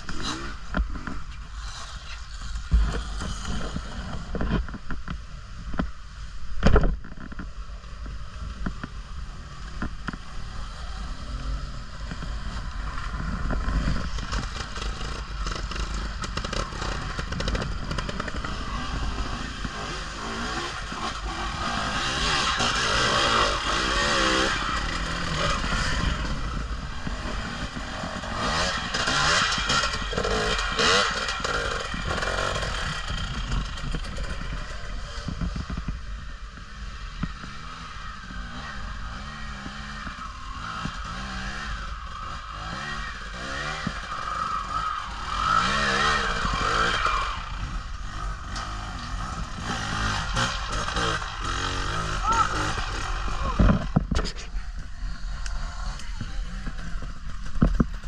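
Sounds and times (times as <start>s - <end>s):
dirt bike engine revving: 0.0s - 4.8s, 9.0s - 58.0s
bike rattling: 0.0s - 58.0s.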